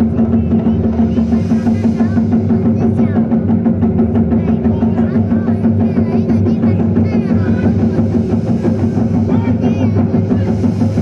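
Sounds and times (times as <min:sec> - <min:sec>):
drum ensemble playing fast rhythm: 0:00.0 - 0:11.0.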